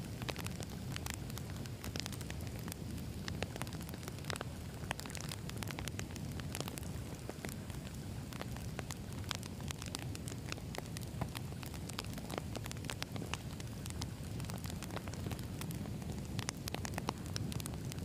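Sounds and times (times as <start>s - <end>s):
burning logs crackling and popping: 0.0s - 18.0s
campfire flames rumbling: 0.0s - 18.0s.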